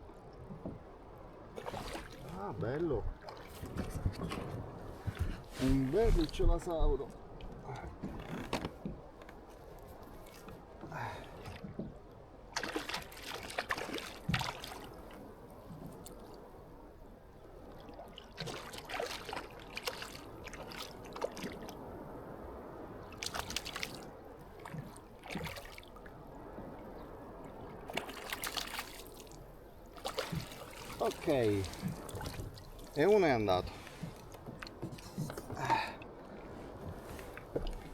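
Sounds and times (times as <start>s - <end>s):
water lapping: 0.6s - 37.9s
water splashing and trickling: 1.5s - 37.9s.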